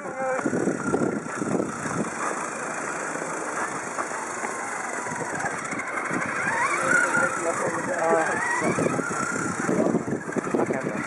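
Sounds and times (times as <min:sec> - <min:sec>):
robot car wheels and motor: 0:00.0 - 0:11.0.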